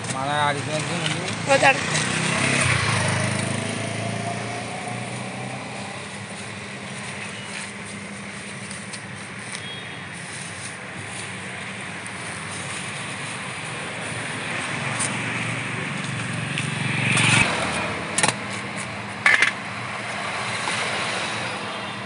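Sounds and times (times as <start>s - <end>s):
vehicle engine: 0.0s - 22.0s.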